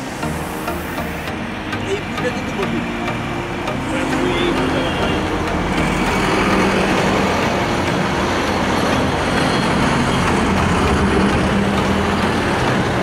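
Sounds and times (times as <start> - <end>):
road traffic: 0.0 - 13.0
vehicle engine running: 0.0 - 13.0.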